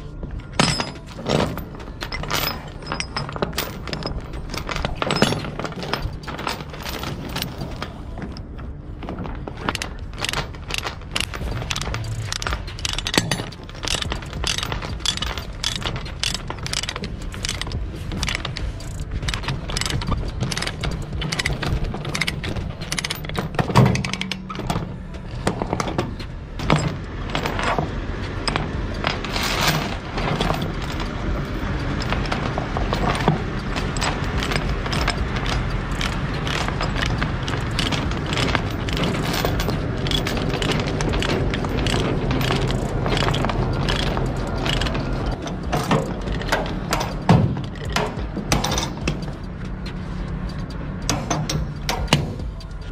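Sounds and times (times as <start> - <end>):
chain links rattling: 0.0 - 52.9
ratchet binder clicking: 9.6 - 52.9.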